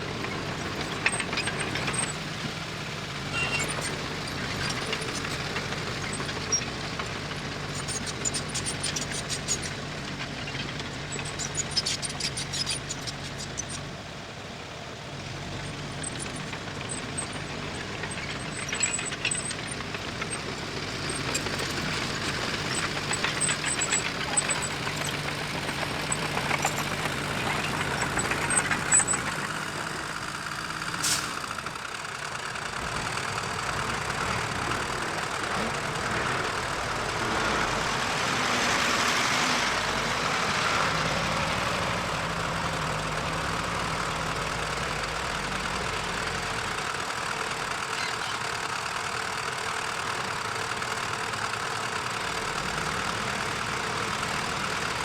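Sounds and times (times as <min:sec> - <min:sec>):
heavy machinery diesel engine running: 0:00.0 - 0:55.0.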